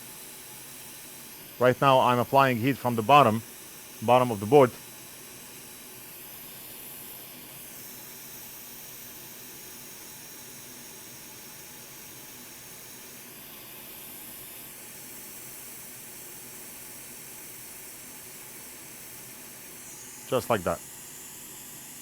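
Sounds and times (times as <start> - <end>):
hot air blower hissing: 0.0 - 22.0.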